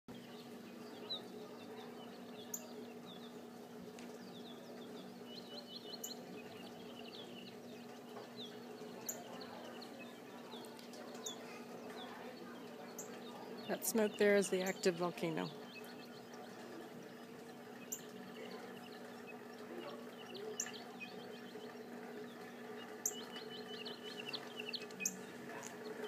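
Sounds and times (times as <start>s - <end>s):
faint birdsong chirps: 0.1s - 26.0s
faint low hum: 0.1s - 26.0s.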